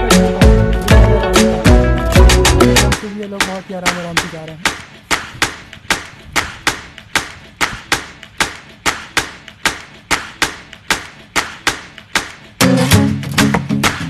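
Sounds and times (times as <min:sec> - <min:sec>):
music: 0:00.0 - 0:14.0.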